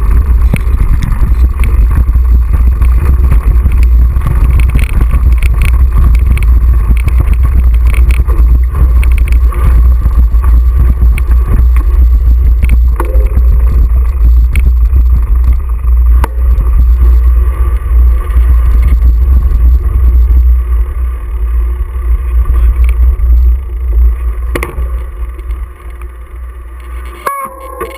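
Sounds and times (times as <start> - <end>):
wind and vibration rumble: 0.0 - 27.9.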